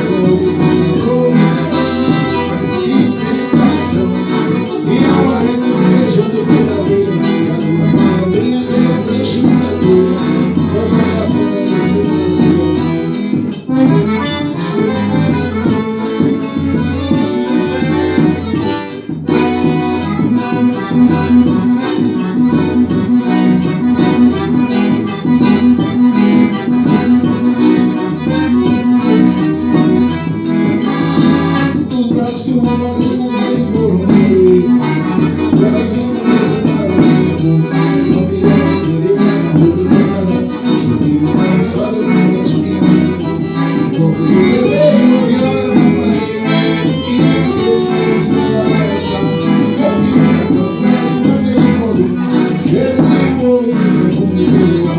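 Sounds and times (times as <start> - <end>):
accordion melody: 0.0 - 54.9
steady percussion beat: 0.0 - 54.9.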